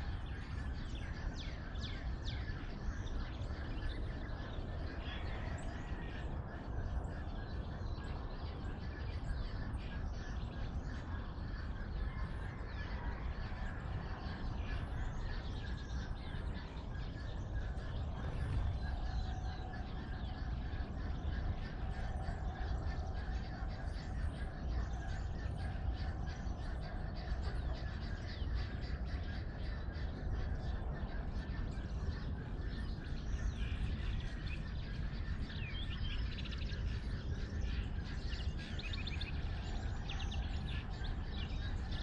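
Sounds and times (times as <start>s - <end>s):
birds chirping: 0.0s - 42.0s
low background rumble: 0.0s - 42.0s.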